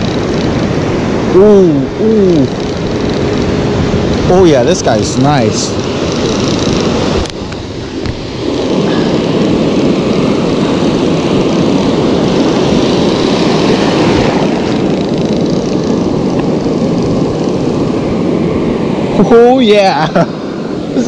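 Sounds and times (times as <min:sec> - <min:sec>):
surf breaking and washing: 0:00.0 - 0:21.0
wind on microphone: 0:00.0 - 0:21.0.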